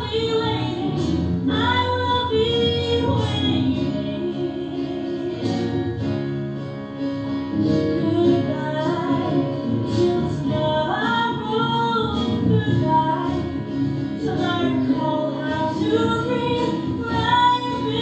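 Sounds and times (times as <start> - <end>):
woman singing: 0.0 - 6.0, 7.6 - 18.0
piano accompaniment: 0.0 - 18.0.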